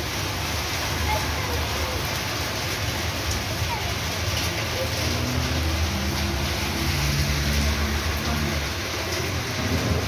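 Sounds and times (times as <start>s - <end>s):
car driving on wet street: 0.0s - 10.0s
steady rain falling: 0.0s - 10.0s.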